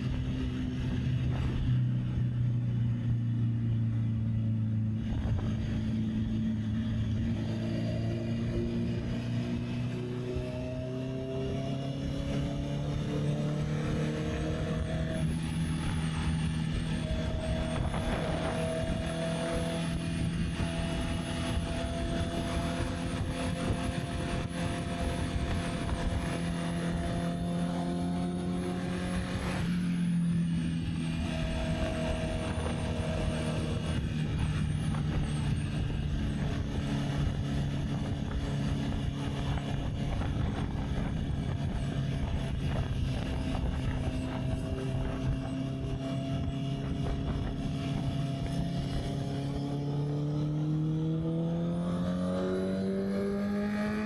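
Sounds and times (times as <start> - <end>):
wind noise on microphone: 0.0 - 51.7
motorcycle engine running: 0.0 - 52.9.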